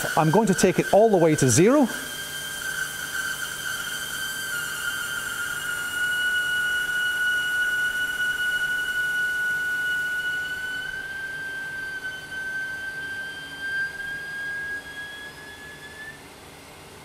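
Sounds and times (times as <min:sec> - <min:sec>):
high-pitched water valve whistle: 0:00.0 - 0:17.0.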